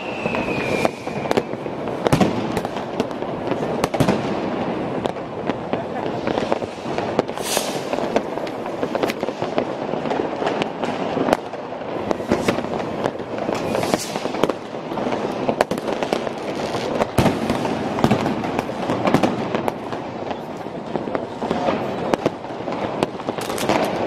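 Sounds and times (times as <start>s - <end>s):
firecrackers crackling: 0.0s - 24.0s
fireworks rockets exploding: 0.0s - 24.0s.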